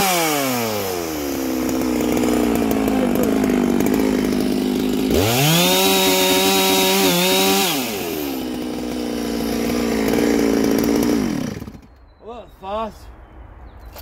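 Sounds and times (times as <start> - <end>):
chainsaw revving: 0.0 - 11.9.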